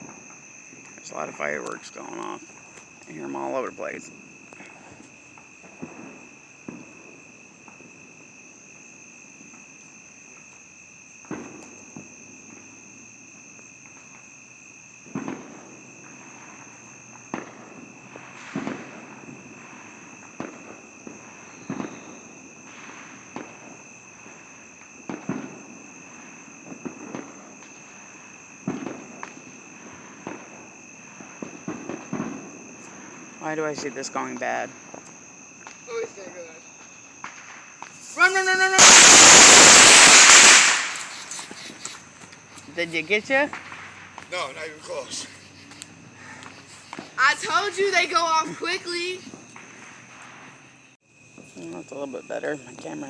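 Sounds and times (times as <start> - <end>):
fireworks bangs and pops: 0.0 - 51.6
night insects trilling: 0.0 - 53.0.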